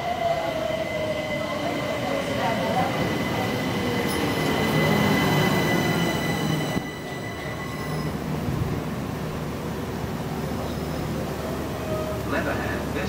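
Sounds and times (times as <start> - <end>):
train carriages rumbling: 0.0 - 13.0.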